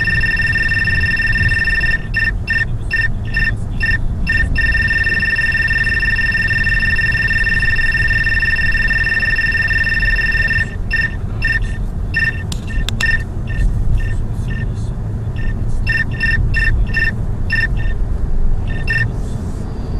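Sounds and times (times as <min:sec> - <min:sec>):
radar detector alert tone and beeps: 0:00.0 - 0:14.7, 0:15.3 - 0:18.0, 0:18.7 - 0:19.1
car cabin rumble: 0:00.0 - 0:19.4.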